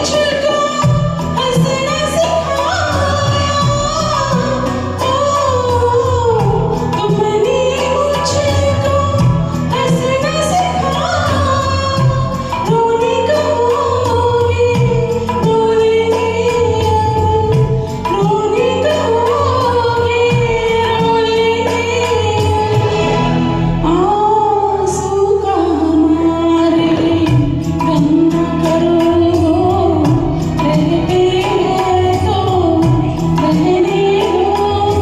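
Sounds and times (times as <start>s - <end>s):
instrumental accompaniment with beat: 0.0s - 35.0s
woman singing: 0.0s - 35.0s.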